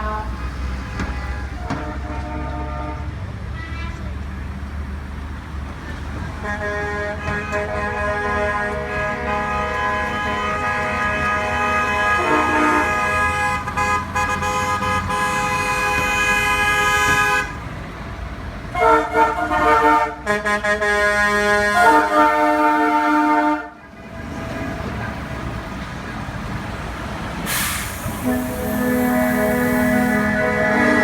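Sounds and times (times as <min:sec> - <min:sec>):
truck horns blasting: 0:00.0 - 0:03.2, 0:06.2 - 0:17.7, 0:18.6 - 0:26.6, 0:27.4 - 0:31.0
truck engines running: 0:00.0 - 0:31.0.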